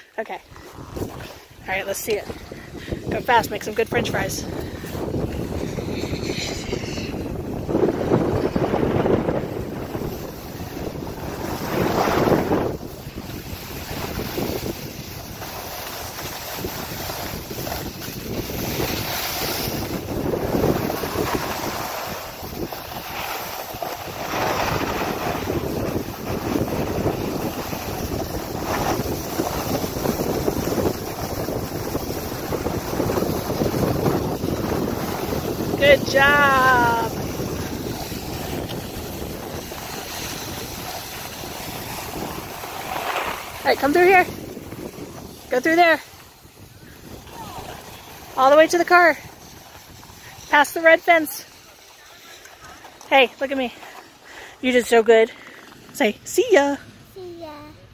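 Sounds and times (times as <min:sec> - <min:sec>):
wind buffeting microphone: 0:00.0 - 0:51.9
skis sliding over snow: 0:00.0 - 0:57.7.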